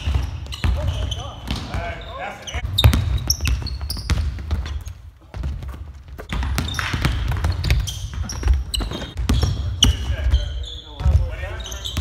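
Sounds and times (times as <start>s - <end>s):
basketballs bouncing on hardwood: 0.0s - 2.0s, 2.6s - 12.0s
sneakers squeaking on floor: 0.0s - 12.0s.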